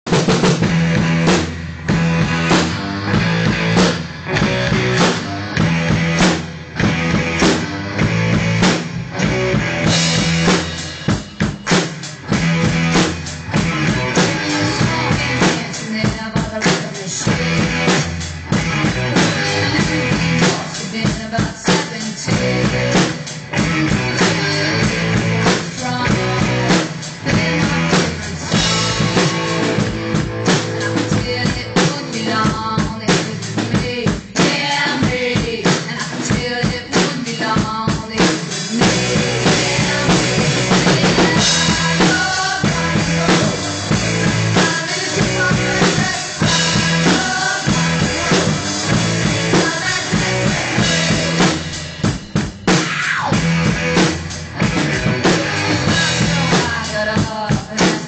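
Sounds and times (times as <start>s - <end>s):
drum kit playing rock beat: 0.0s - 58.0s
recorded rock song: 0.0s - 58.0s.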